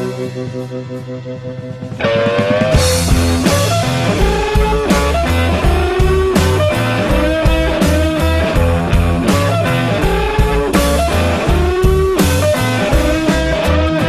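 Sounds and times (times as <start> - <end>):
bass and drum beat: 0.0 - 14.0
guitar bending notes: 0.0 - 14.0.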